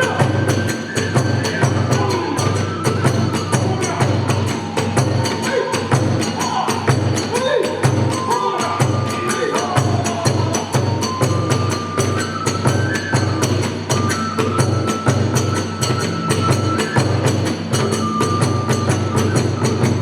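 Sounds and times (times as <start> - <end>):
drum beating fast rhythm: 0.0 - 20.0.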